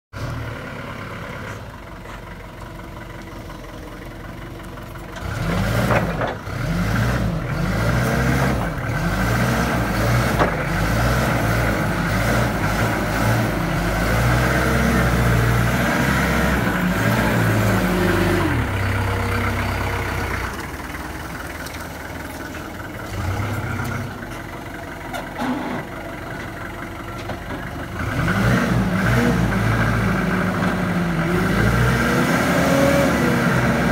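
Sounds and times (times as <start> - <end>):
forklift diesel engine revving: 0.2 - 2.4, 3.1 - 33.9.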